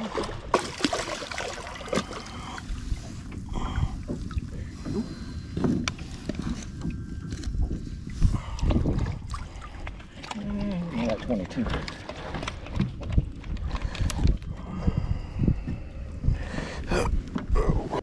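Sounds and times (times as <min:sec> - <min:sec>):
water and wind hiss: 0:00.0 - 0:16.8.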